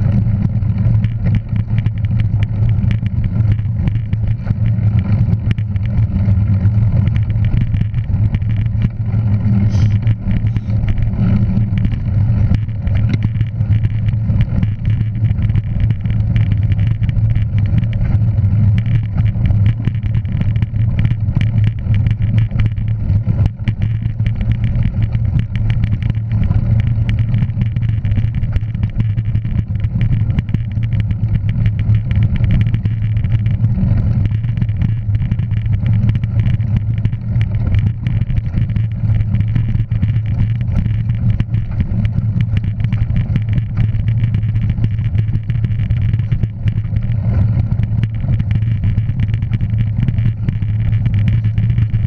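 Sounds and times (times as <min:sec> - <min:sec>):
vehicle rumble: 0:00.0 - 0:52.0.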